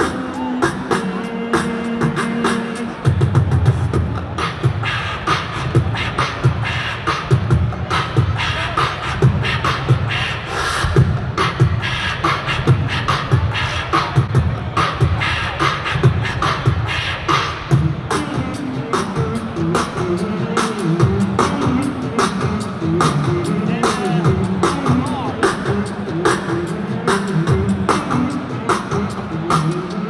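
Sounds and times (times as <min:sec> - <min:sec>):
amplified beatboxing: 0:00.0 - 0:30.0.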